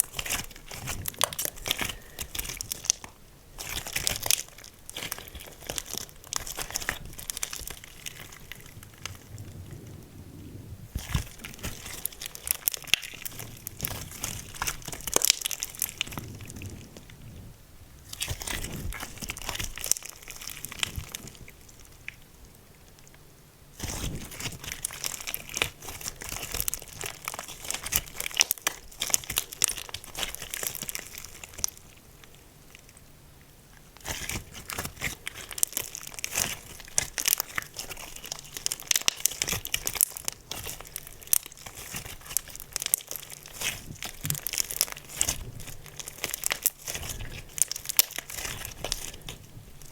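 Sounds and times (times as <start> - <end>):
sticky slime crackling: 0.0 - 22.4, 23.7 - 33.1, 33.7 - 49.9.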